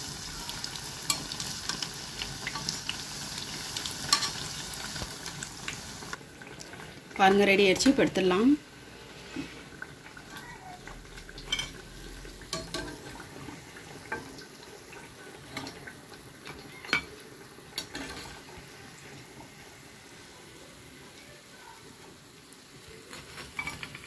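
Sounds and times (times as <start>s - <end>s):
frying oil hissing: 0.0s - 24.0s.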